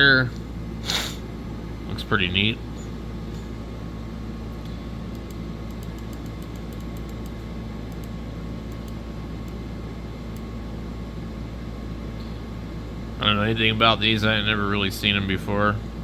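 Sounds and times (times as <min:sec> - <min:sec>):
low background hum with hiss: 0:00.0 - 0:16.0.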